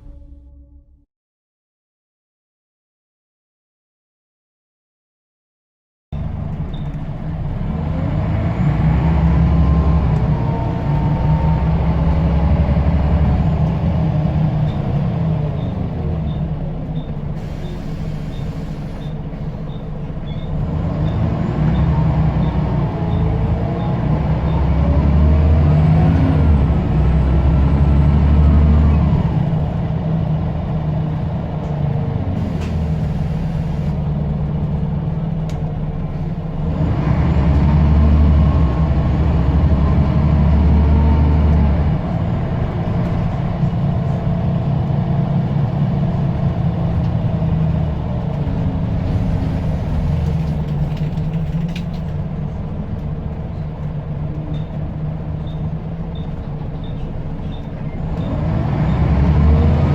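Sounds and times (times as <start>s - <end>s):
bus diesel engine pulling hard: 6.2s - 59.9s.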